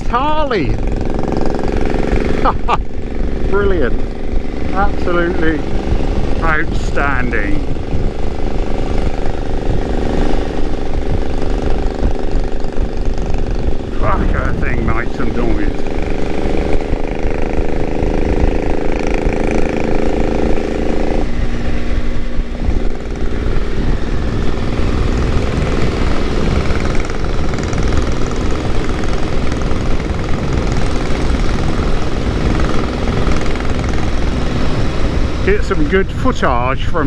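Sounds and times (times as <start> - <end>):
motorcycle engine drone: 0.0 - 37.0
road rumble: 0.0 - 37.0
wind buffeting: 0.0 - 37.0.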